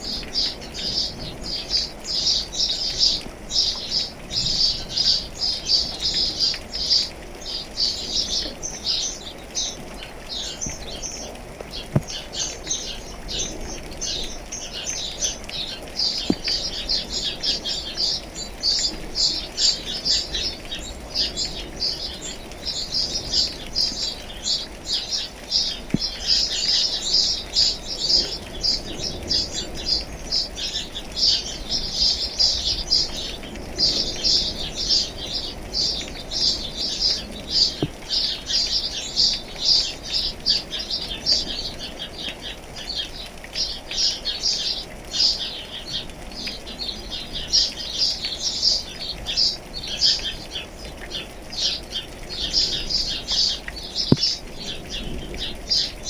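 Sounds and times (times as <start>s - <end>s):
rain patter: 0.0s - 56.0s
small birds chirping: 0.0s - 56.0s.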